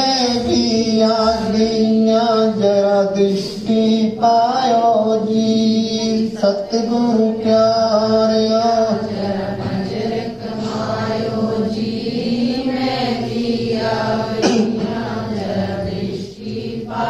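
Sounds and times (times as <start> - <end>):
devotional singing: 0.0 - 17.0.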